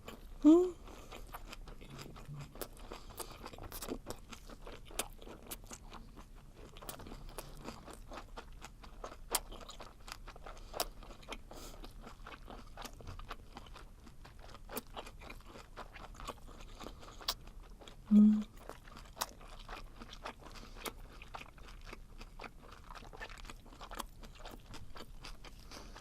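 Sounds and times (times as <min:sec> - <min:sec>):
person chewing wetly: 0:00.0 - 0:26.0.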